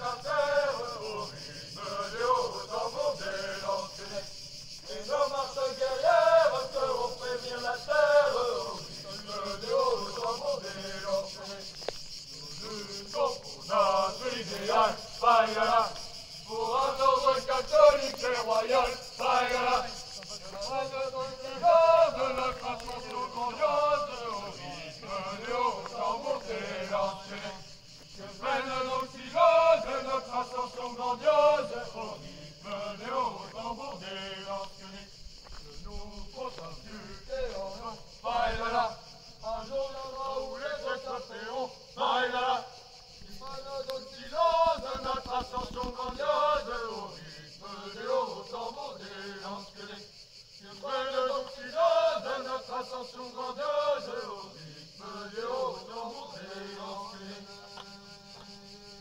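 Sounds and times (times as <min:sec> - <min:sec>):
voices singing a chant: 0:00.0 - 0:59.0.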